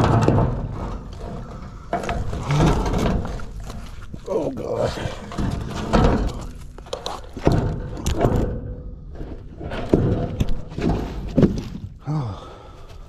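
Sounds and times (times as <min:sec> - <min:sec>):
metal scraping: 0:00.0 - 0:11.8
scrap metal clunking on wood: 0:00.0 - 0:12.0.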